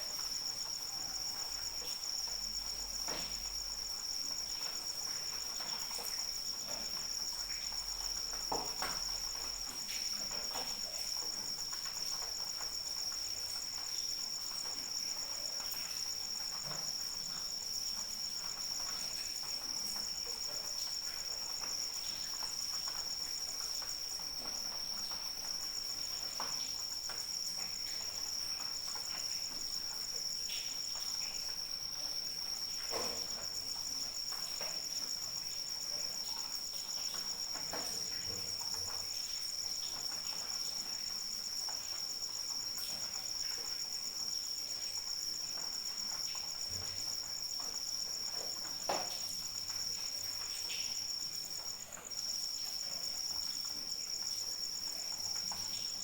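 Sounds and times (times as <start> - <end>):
crickets chirring: 0.0 - 56.0
light rain with drips: 0.0 - 56.0.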